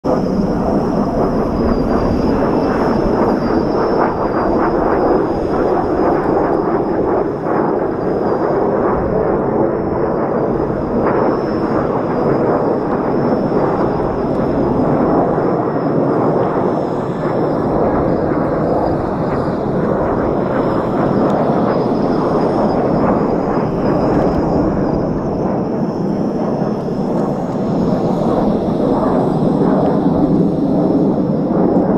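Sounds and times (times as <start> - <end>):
jet aircraft roar overhead: 0.0 - 31.9.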